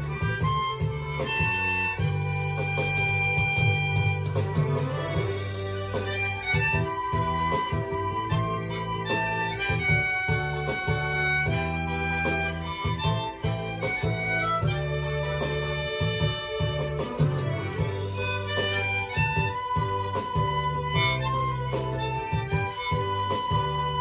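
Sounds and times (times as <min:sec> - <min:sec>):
backing accompaniment with low bass: 0:00.0 - 0:24.0
harmonica melody: 0:00.0 - 0:24.0.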